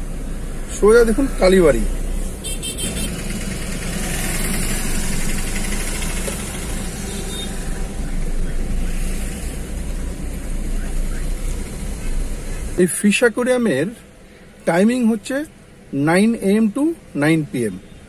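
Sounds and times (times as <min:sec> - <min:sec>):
surrounding traffic: 0:00.0 - 0:18.0
vehicle engine hum and road noise: 0:00.0 - 0:18.0.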